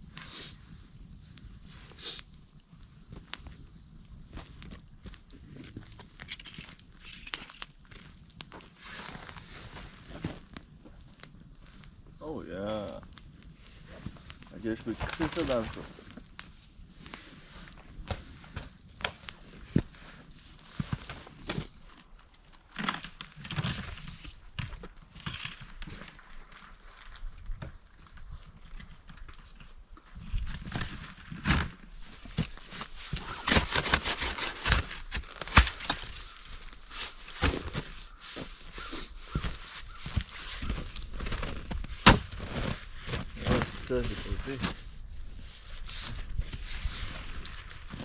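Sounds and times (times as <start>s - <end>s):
crunches in snow: 4.3s - 48.0s.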